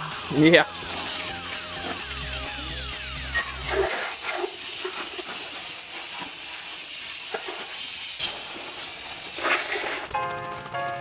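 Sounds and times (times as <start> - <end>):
water spraying from hose nozzle: 0.3 - 10.2.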